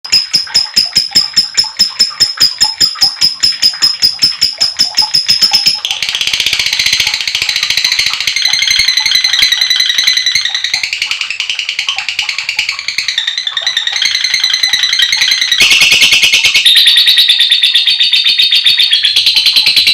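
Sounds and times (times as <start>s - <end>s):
lovebird chirping and trilling: 0.1s - 19.9s.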